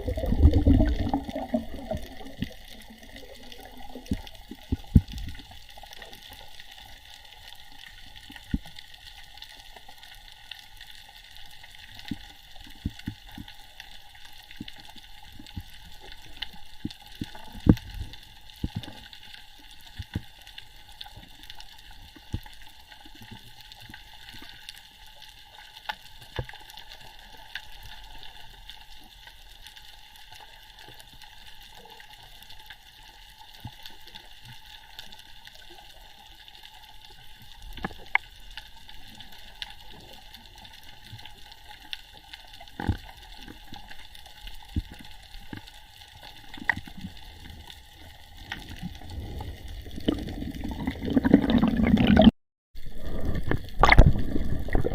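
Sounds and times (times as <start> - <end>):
sharp clicks and crackles: 0.1 - 50.6.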